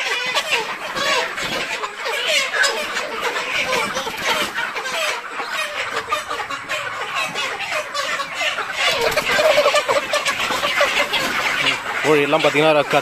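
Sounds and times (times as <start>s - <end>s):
chickens clucking in alarm: 0.0s - 13.0s.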